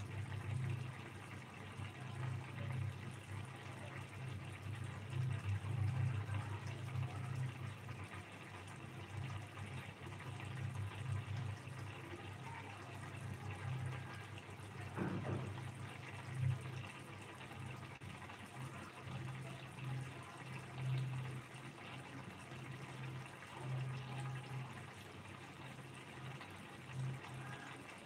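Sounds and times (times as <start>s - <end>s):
thick gravy bubbling and plopping: 0.0s - 28.0s.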